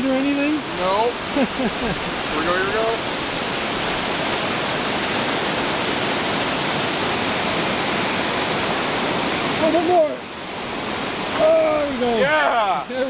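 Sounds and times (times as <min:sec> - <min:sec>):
water pouring over dam: 0:00.0 - 0:13.0.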